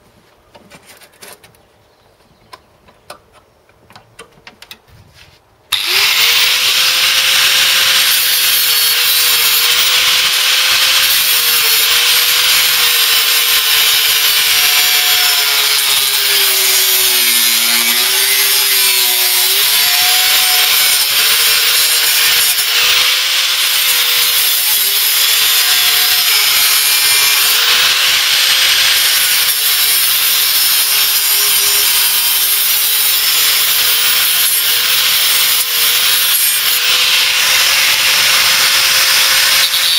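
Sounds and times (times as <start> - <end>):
angle grinder cutting steel: 5.7 - 39.9.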